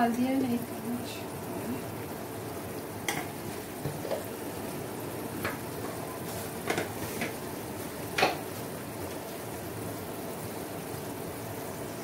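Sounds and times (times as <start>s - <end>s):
food bubbling and sizzling in pot: 0.0s - 12.0s.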